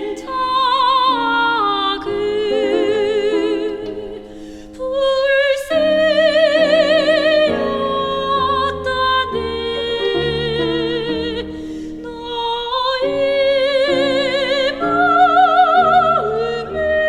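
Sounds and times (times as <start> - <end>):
soprano singing with piano trio: 0.0 - 17.0.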